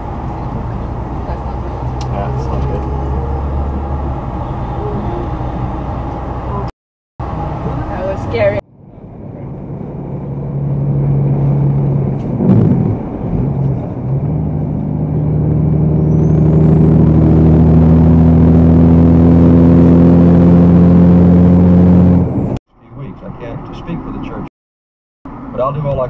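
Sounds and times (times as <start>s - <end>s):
vehicle engine running: 0.0s - 22.6s.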